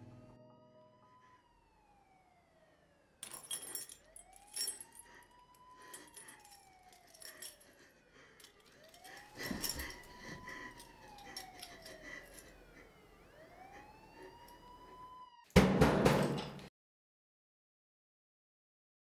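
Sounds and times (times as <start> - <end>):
faint siren wailing: 0.1 - 15.6.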